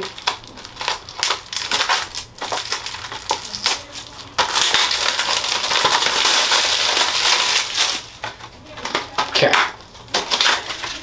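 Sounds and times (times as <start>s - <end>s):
plastic shrink-wrap crinkling: 0.0s - 11.0s.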